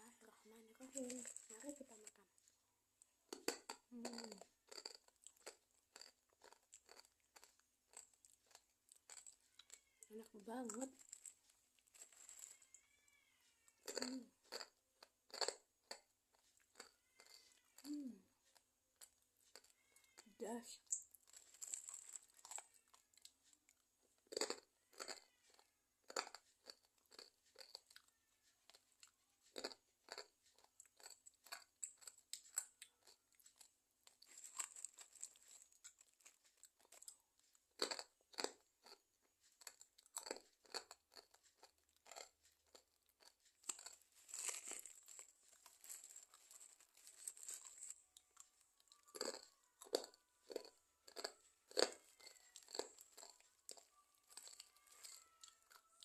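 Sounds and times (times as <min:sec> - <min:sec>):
crunchy snack being chewed: 0:00.2 - 0:02.5, 0:03.3 - 0:56.0.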